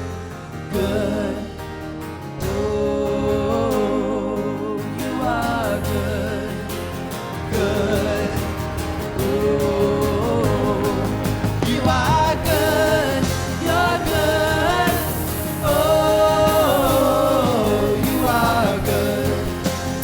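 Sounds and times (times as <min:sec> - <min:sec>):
sung vocals: 0:00.0 - 0:20.0
worship band playing: 0:02.3 - 0:20.0.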